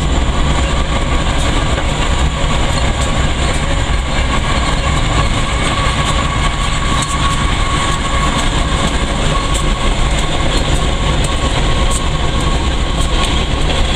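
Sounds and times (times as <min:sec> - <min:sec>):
freight train rumbling: 0:00.0 - 0:13.9.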